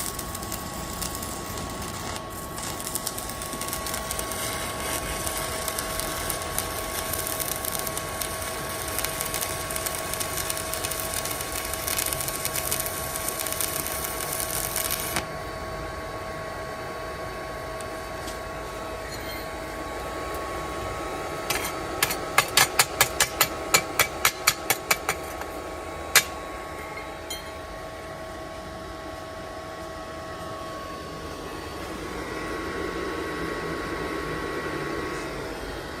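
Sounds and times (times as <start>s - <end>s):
welder whine and fan hum: 0.0s - 36.0s.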